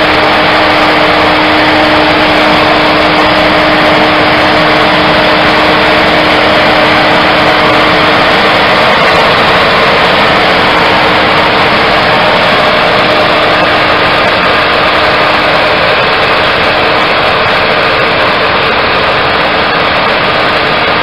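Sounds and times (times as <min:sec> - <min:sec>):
heavy machinery engines running: 0:00.0 - 0:21.0.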